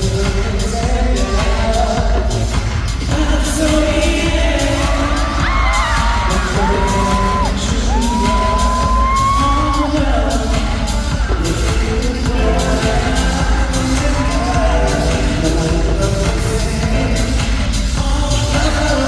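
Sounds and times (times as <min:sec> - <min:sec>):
backing track with steady beat: 0:00.0 - 0:19.0
man singing: 0:00.0 - 0:19.0.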